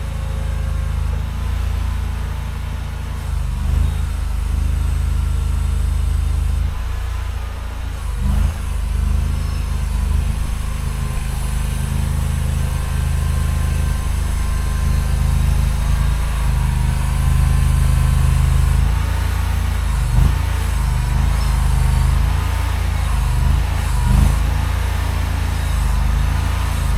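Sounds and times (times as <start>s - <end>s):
skid steer engine running: 0.0s - 26.9s.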